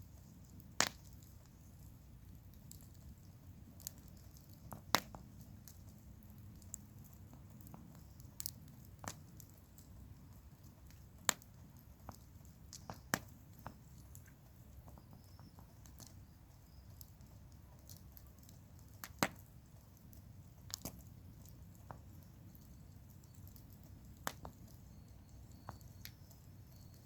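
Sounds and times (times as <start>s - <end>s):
campfire crackling: 0.0s - 27.0s
low steady background noise: 0.0s - 27.0s.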